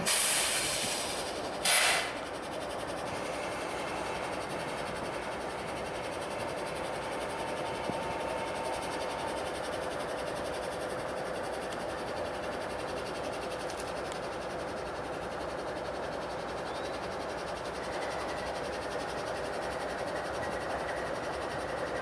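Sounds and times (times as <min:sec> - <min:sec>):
train rolling rush: 0:00.0 - 0:22.0.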